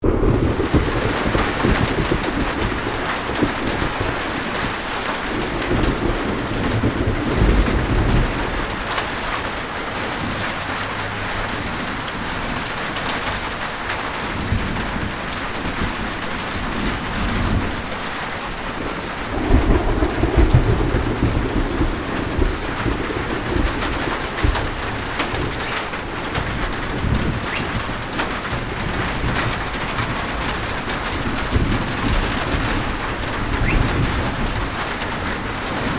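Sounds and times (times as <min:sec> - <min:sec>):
rolling thunder: 0:00.0 - 0:35.9
steady rain falling: 0:00.0 - 0:35.9.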